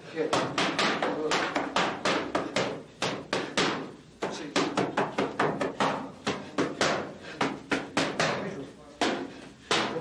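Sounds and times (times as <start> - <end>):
boxing gloves smacking mitts: 0.2 - 10.0.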